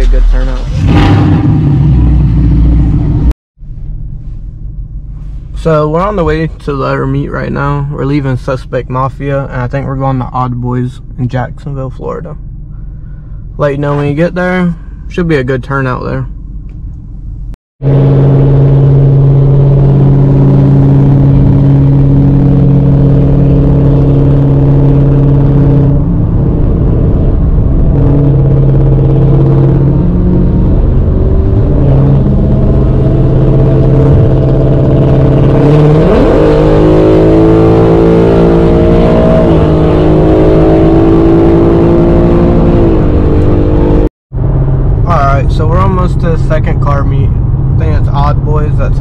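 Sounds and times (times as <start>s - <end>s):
car engine droning and revving: 0.0s - 49.0s.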